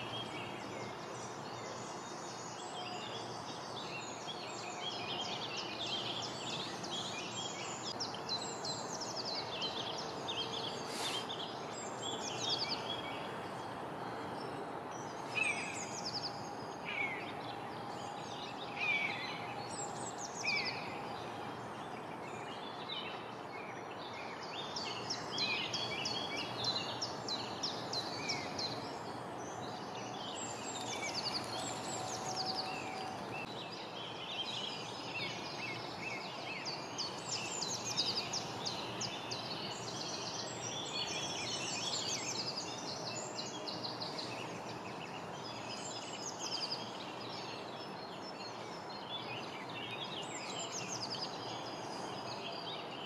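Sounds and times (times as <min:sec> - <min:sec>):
outdoor background hiss: 0:00.0 - 0:53.0
songbirds chirping and whistling: 0:00.0 - 0:53.0.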